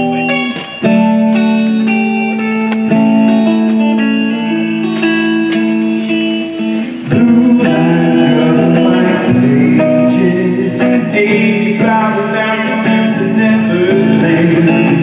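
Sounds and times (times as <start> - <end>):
guitar playing ringing notes: 0.0 - 15.0.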